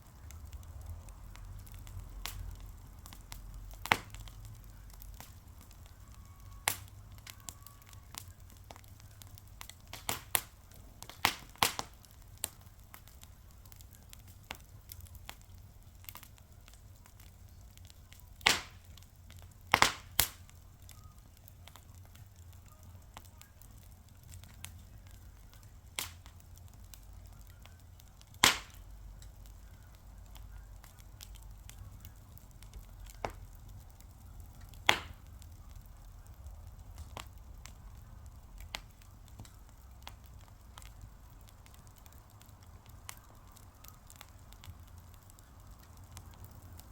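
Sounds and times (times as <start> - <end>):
fire low rumble: 0.0 - 46.9
wood fire popping and snapping: 0.0 - 46.9.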